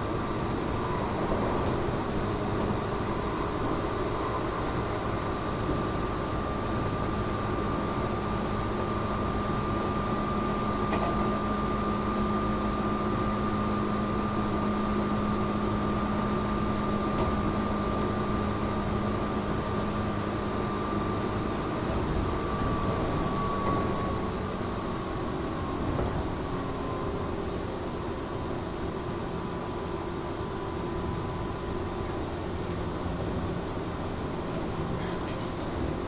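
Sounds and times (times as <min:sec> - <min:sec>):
train wheel and rail rumble: 0:00.0 - 0:36.0.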